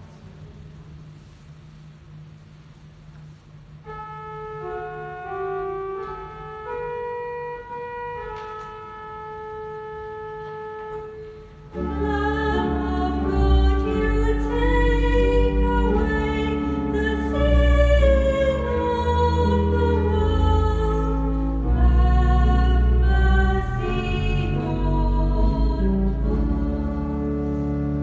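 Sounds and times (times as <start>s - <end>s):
church organ playing: 3.8s - 28.0s.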